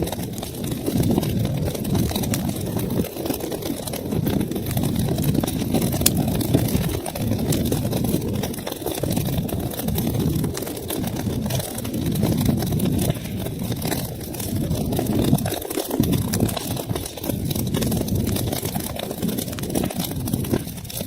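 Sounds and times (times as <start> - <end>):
fire flames rumbling: 0.0 - 21.0
wood crackling and popping: 0.0 - 21.0.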